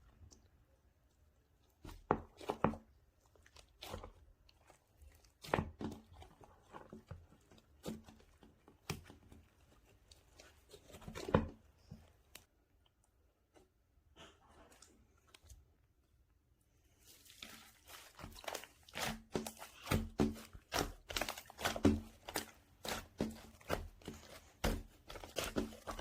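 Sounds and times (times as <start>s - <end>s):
hands squishing slime: 0.0s - 12.5s, 16.7s - 26.0s.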